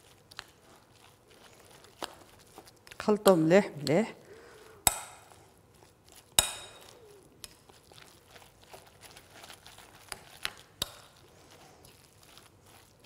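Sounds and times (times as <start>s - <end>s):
hand mixing food in a bowl: 0.0s - 13.0s.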